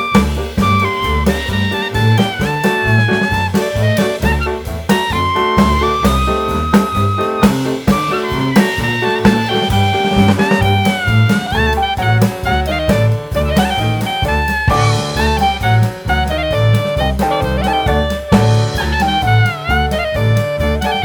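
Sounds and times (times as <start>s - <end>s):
upbeat jazz swing music: 0.0s - 21.0s.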